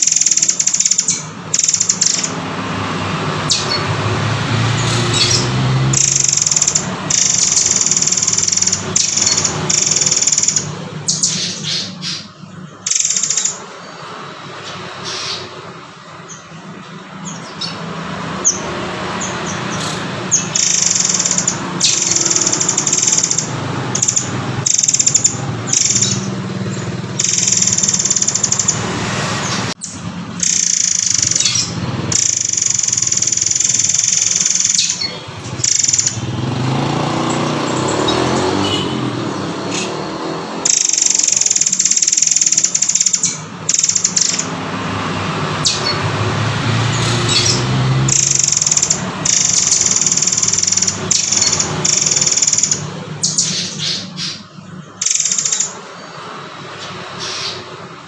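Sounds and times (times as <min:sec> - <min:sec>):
bird calling shrill phrases: 0:00.0 - 0:58.0.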